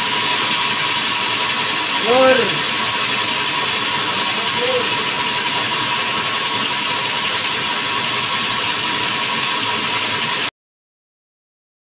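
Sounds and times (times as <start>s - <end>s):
band saw whirring and rattling: 0.0s - 10.5s.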